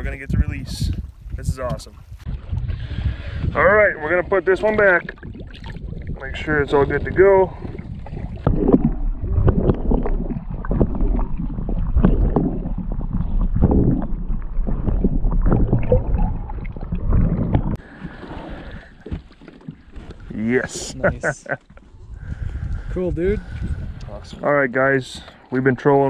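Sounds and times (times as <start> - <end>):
water sloshing and gurgling: 0.0 - 26.0.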